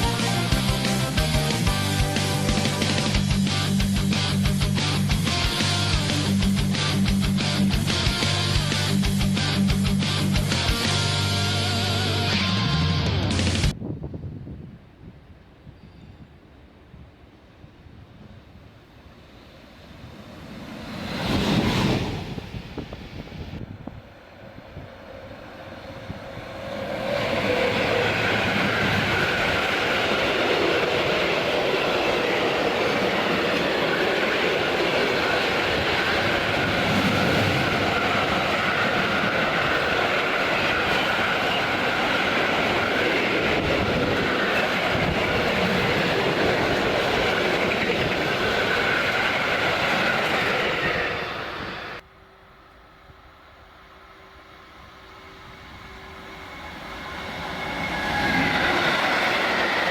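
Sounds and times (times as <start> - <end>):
train wheels rolling on track: 0.0 - 12.5, 18.1 - 59.9.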